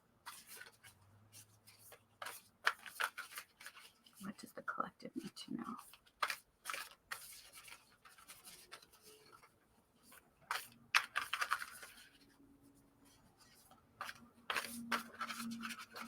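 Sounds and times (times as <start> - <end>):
cards shuffling: 0.3 - 4.2, 5.8 - 12.3, 13.4 - 16.0.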